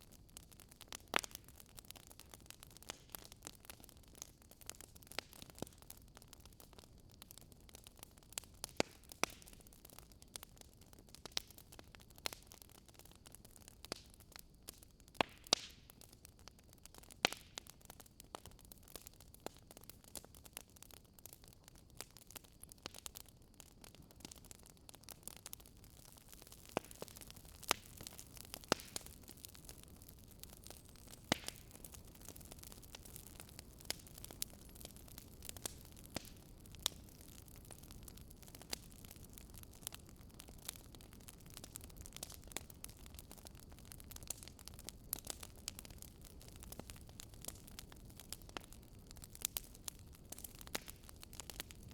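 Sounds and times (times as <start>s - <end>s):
faint steady hiss: 0.0s - 51.9s
wood fire crackling: 0.0s - 51.9s.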